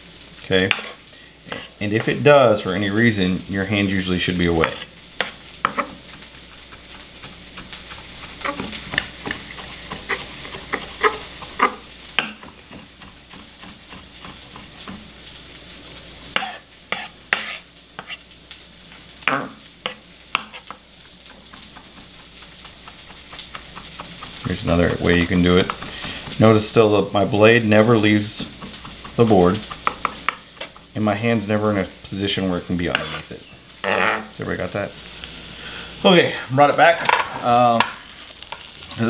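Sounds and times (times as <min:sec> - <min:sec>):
faint frying sizzle: 0:00.0 - 0:39.0.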